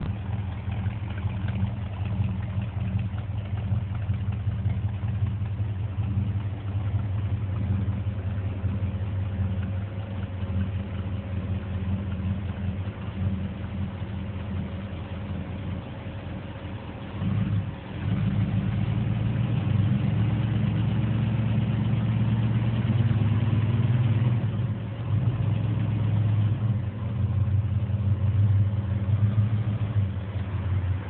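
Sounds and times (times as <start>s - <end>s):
car engine humming: 0.0s - 31.0s.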